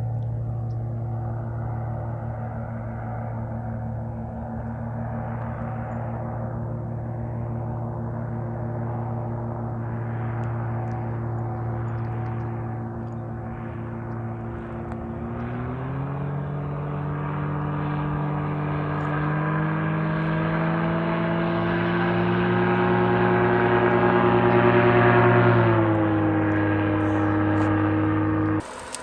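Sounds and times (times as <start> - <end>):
low-flying aircraft droning: 0.0 - 29.0.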